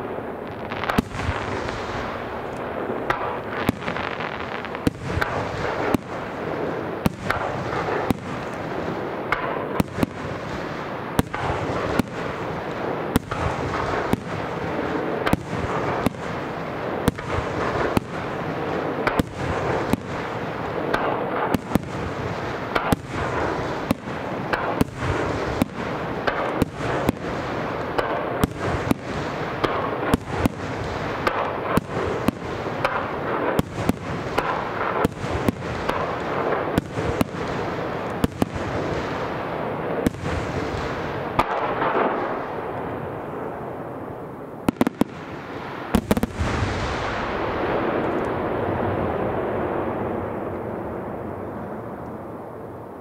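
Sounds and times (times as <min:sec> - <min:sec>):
fireworks bangs: 0:00.0 - 0:53.0
fireworks rumble and crackle: 0:00.0 - 0:53.0.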